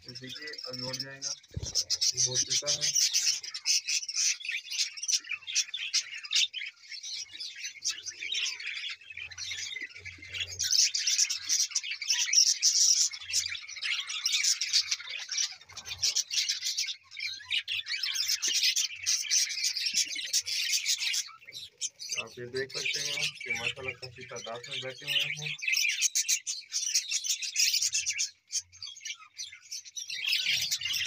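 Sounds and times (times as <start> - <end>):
budgerigars chattering and chirping: 0.0 - 31.0.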